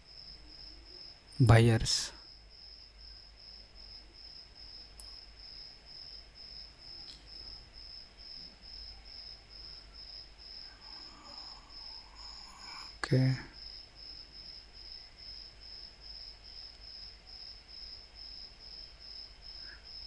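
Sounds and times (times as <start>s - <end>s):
high-pitched insect chirping: 0.1s - 20.0s.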